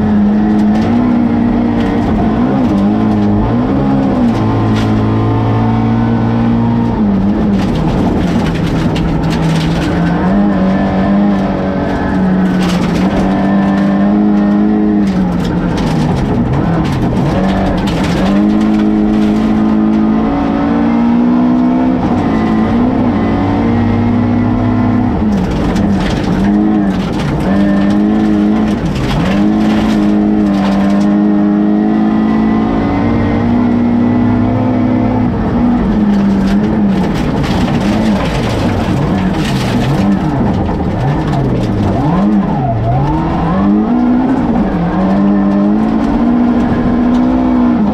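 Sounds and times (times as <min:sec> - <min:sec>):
car engine revving: 0:00.0 - 0:47.9
gravel rattling against car: 0:00.0 - 0:47.9.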